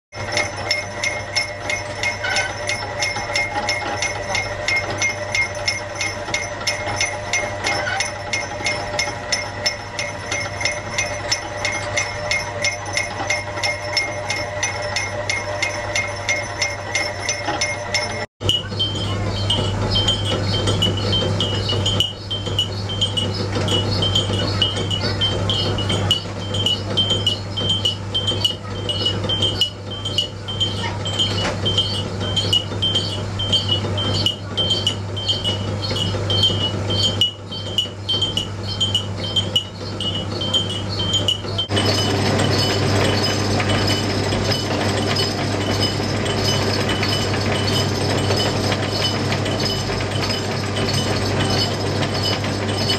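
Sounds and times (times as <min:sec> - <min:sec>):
machine humming: 0:00.2 - 0:52.9.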